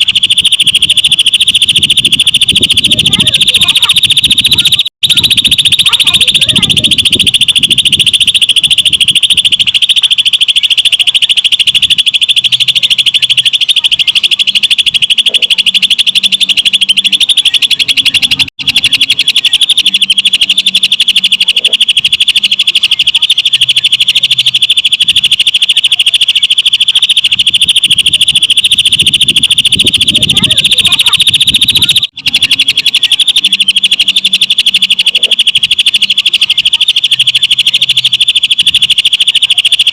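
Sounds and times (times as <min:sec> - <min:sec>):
bird singing high-pitched trill: 0:00.0 - 0:39.9.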